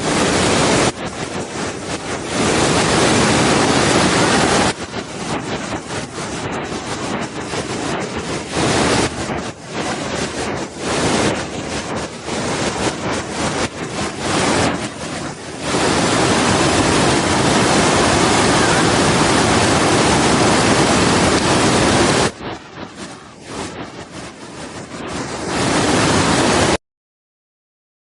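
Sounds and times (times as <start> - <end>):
waterfall rushing: 0.0 - 26.8.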